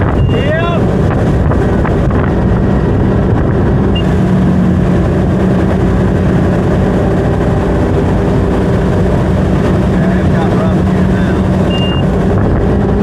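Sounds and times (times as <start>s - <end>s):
wind noise on microphone: 0.0s - 10.3s, 11.2s - 13.0s
boat engine running: 0.0s - 13.0s.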